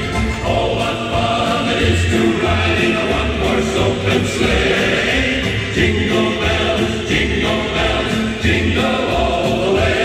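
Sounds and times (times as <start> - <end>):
choir singing: 0.0 - 10.0
low bass accompaniment: 0.0 - 10.0.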